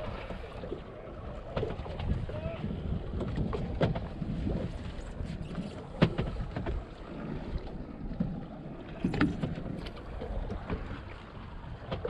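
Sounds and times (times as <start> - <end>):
water wash: 0.0 - 12.0
wind buffeting microphone: 0.0 - 12.0.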